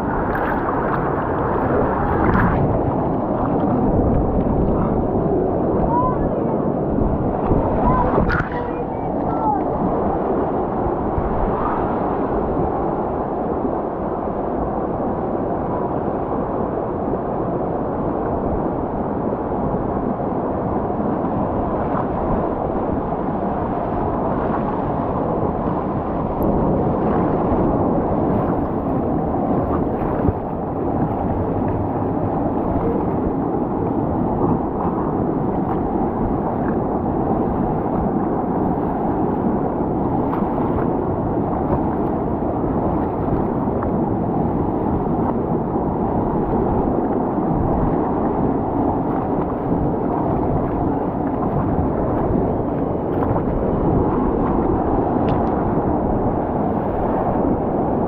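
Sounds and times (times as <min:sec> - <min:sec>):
water rushing and churning: 0:00.0 - 0:58.0.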